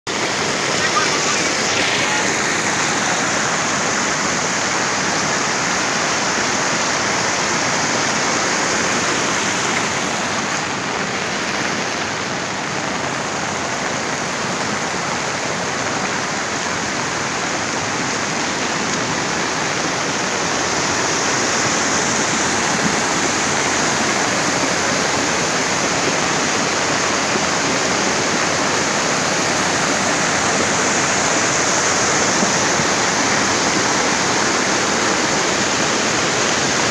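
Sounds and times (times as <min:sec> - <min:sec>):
floodwater rushing: 0:00.0 - 0:36.9.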